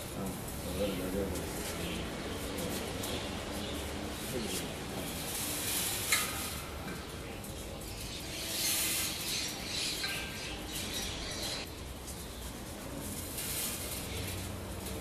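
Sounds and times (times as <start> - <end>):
dry offerings rustling into brass pot: 0.0 - 15.0.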